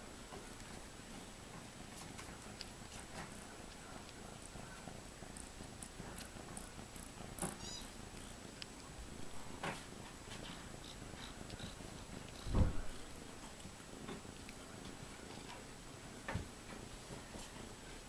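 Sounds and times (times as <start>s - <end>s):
kitten purring: 0.1s - 15.9s.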